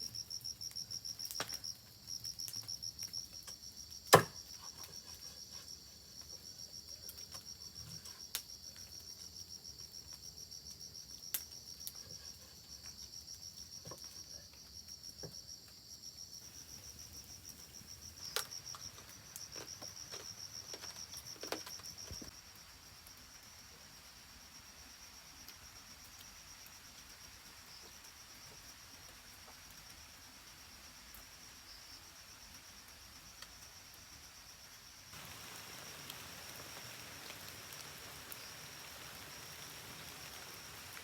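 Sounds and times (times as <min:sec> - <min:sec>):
insect chirping: 0:00.0 - 0:41.0.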